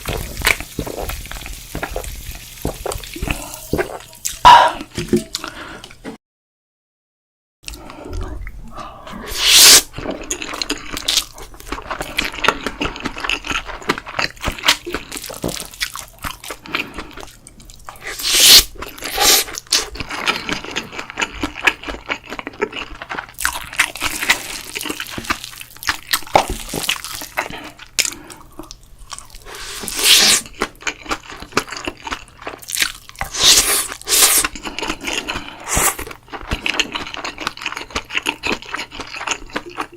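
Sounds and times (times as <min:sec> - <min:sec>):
person chewing and crunching food: 0:00.0 - 0:06.0, 0:07.7 - 0:39.9.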